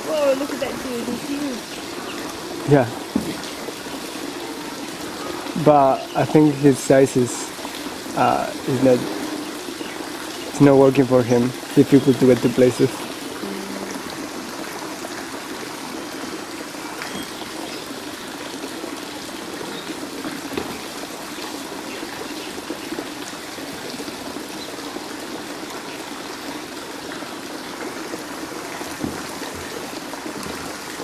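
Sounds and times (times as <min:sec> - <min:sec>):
water trickling into pond: 0:00.0 - 0:31.0.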